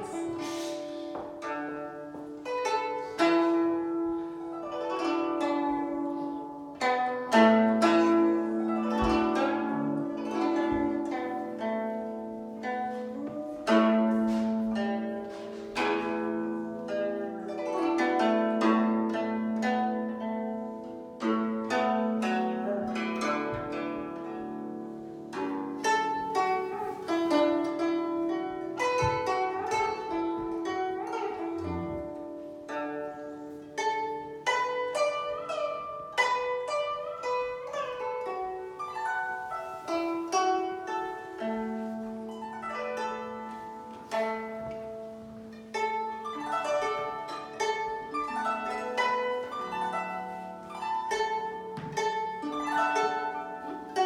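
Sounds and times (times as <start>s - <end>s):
plucked zither: 0.0s - 54.0s.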